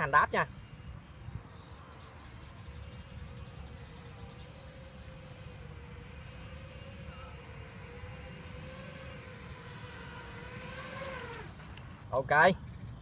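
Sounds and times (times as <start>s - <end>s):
quadcopter motors whining: 0.0s - 12.6s.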